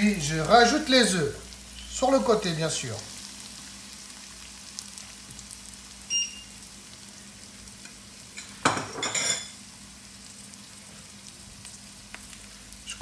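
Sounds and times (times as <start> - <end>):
eggs sizzling in a wok: 0.0 - 13.0.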